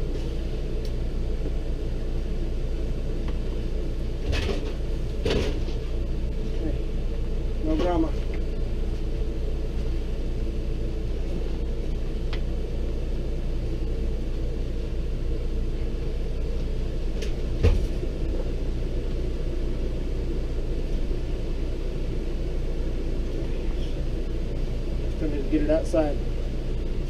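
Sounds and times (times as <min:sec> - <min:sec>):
low machine rumble: 0:00.0 - 0:27.0.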